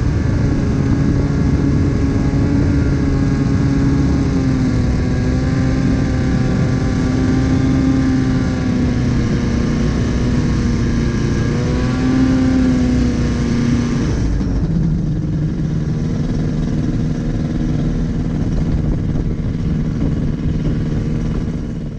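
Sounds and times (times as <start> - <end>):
two-stroke aircraft engine running: 0.0 - 21.9.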